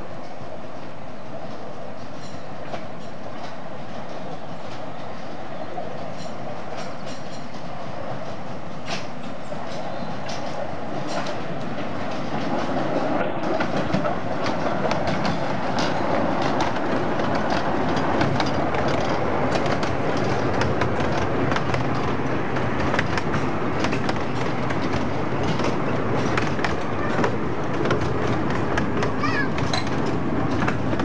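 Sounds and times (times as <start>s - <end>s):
miniature steam train rumbling: 0.0s - 31.0s
wheels clicking on track: 5.9s - 31.0s.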